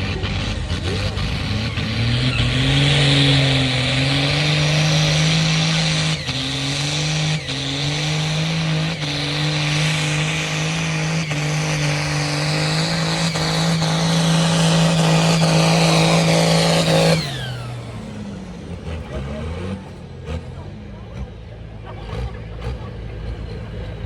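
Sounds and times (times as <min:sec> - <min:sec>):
tractor engine revving hard: 0:00.0 - 0:24.0.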